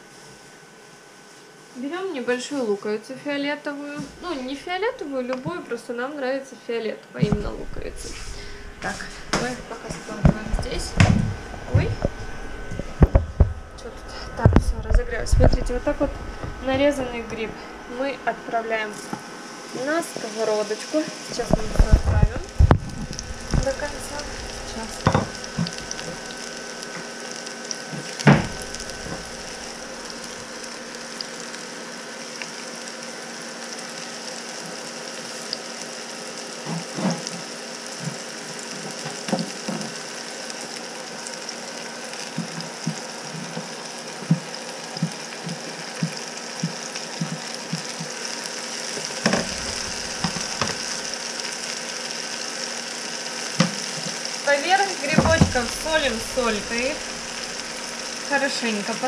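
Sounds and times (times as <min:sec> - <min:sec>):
mushrooms sizzling in hot oil: 0:03.7 - 0:06.2, 0:07.2 - 0:59.0
oil popping and crackling: 0:07.2 - 0:17.7, 0:21.3 - 0:59.0.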